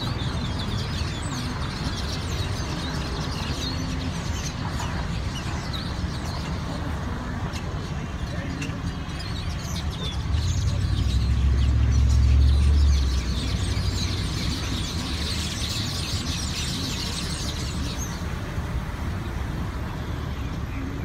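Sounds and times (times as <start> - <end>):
flock of small birds chirping: 0.0 - 21.0
low traffic rumble: 0.0 - 21.0.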